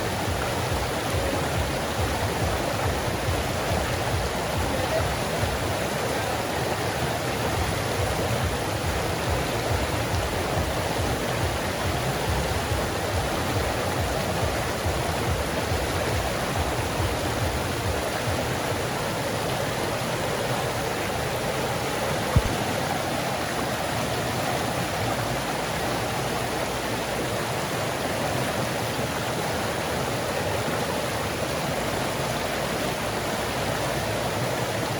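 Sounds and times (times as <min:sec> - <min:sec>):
creek water flowing: 0:00.0 - 0:34.9.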